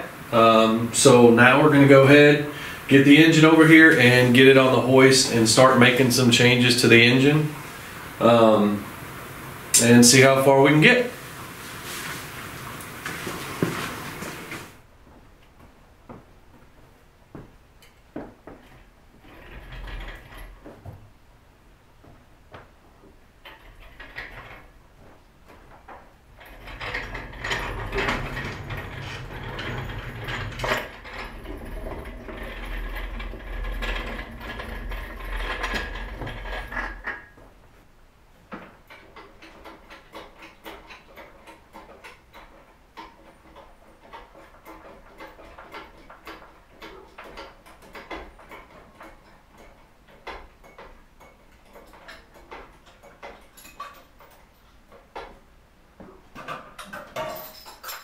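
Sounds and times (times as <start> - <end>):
engine stand casters rumbling: 0.0 - 14.9, 17.8 - 37.7, 38.4 - 58.0.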